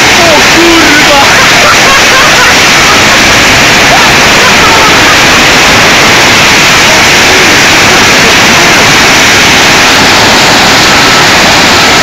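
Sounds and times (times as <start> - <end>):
torrential rain and hail: 0.0 - 12.0.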